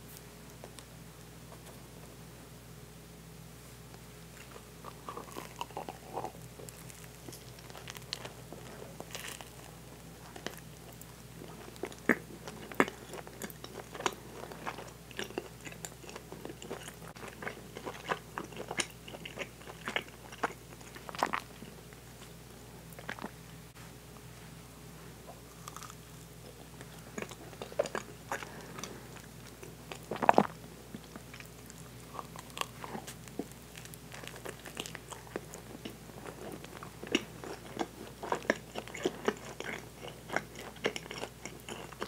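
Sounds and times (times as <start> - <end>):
biting and chewing bagel: 4.3 - 23.4, 25.4 - 42.0.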